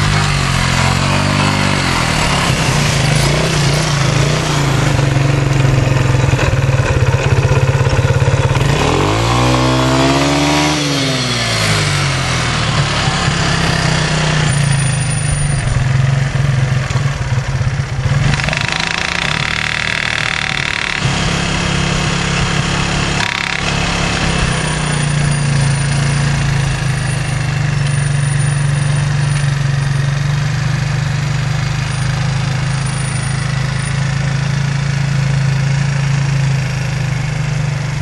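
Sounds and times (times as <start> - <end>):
atv engine running and revving: 0.0 - 38.0.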